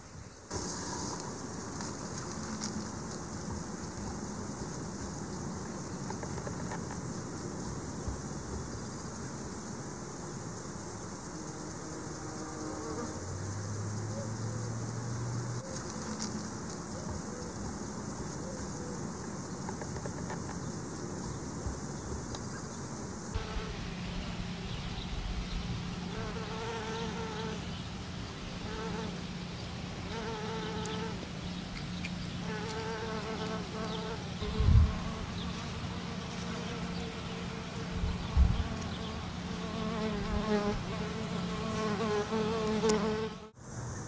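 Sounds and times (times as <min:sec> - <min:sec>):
flying insects buzzing: 0:00.0 - 0:44.0.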